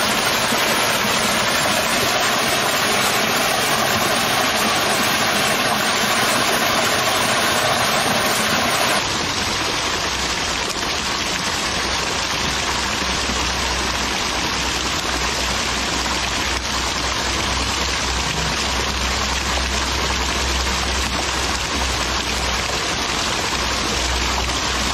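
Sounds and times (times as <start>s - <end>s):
water gushing and splashing: 0.0s - 24.9s.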